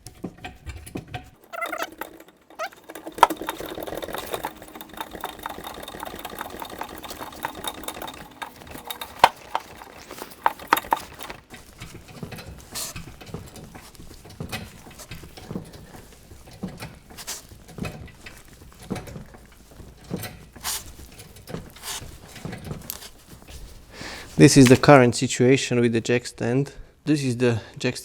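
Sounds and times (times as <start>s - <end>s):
metallic clicks and knocks: 0.0s - 25.0s.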